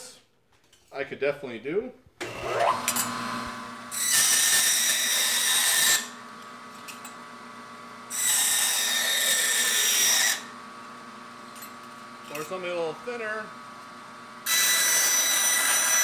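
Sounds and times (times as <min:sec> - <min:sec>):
bandsaw grinding through metal: 0:02.2 - 0:16.0
bandsaw humming: 0:02.2 - 0:16.0.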